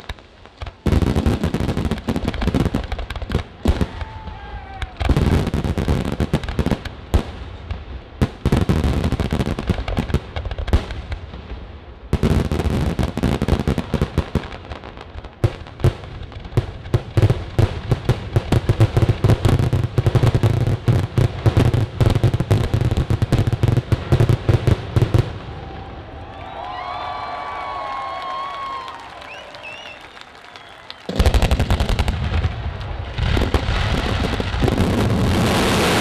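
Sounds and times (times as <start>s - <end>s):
rapid barrage of firework reports: 0.0s - 36.0s.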